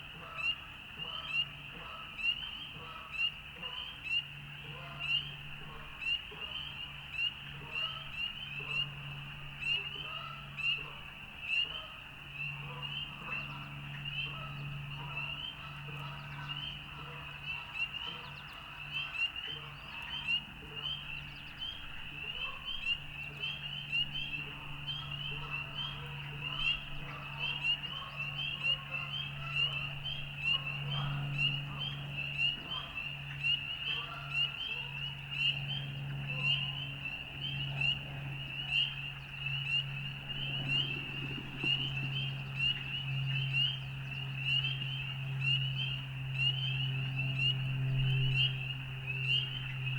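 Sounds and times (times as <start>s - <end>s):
frogs calling: 0.4s - 49.9s
low steady hum: 4.5s - 49.9s.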